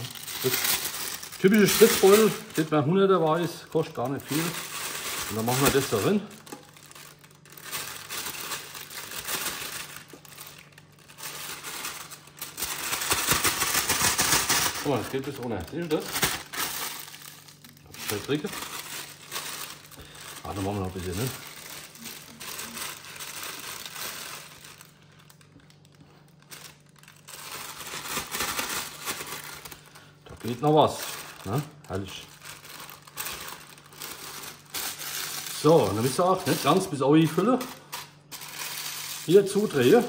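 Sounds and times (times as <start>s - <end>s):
piping bag crinkling: 0.0s - 40.0s.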